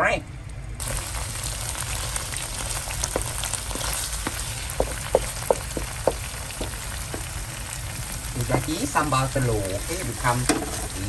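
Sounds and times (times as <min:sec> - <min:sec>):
eggs sizzling in a pan: 0:00.8 - 0:11.0.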